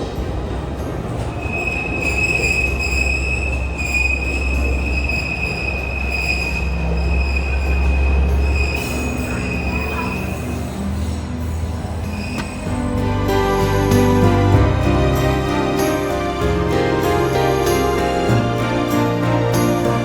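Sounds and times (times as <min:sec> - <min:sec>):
low rumble of running train: 0:00.0 - 0:20.0
train wheels squealing on rails: 0:00.0 - 0:20.0.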